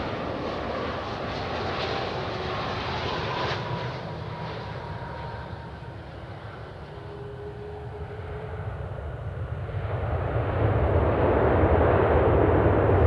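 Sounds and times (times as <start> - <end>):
jet engines rumbling and roaring: 0.0 - 13.0.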